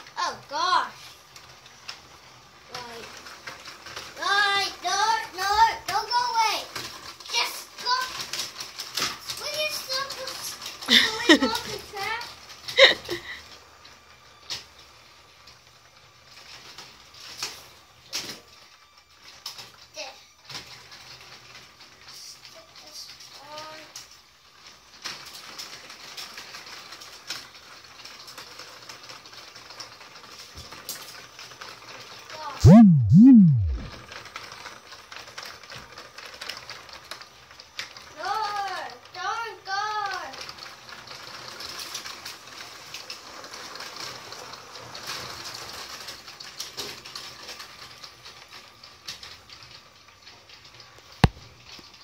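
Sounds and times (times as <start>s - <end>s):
toy train clicking rattle on track: 0.0s - 32.6s, 34.1s - 52.0s.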